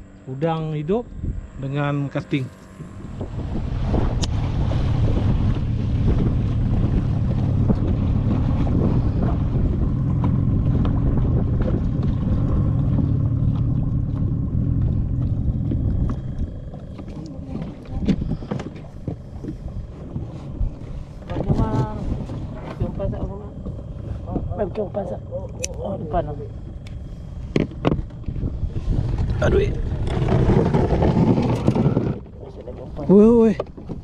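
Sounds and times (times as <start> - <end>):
boat motor running: 0.0 - 34.0
wind noise on microphone: 0.0 - 34.0.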